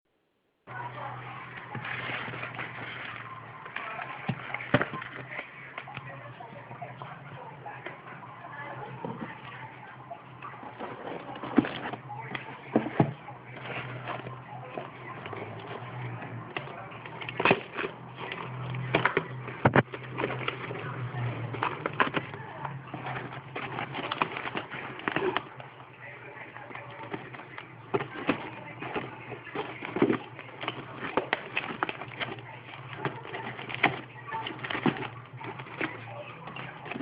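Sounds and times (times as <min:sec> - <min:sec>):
steady low hum: 0:00.3 - 0:37.0
packaging crinkling and rustling: 0:00.7 - 0:37.0.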